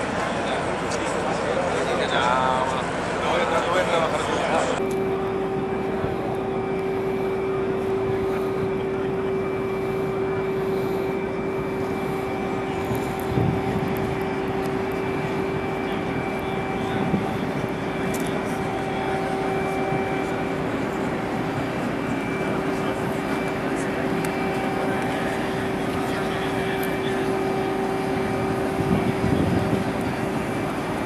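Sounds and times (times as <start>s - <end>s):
outdoor background noise: 0.0s - 31.0s
steady machinery hum: 0.0s - 31.0s.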